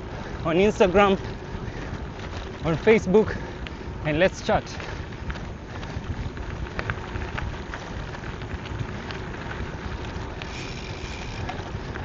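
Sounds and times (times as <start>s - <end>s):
bicycle tyres rolling on gravel: 0.0s - 12.0s.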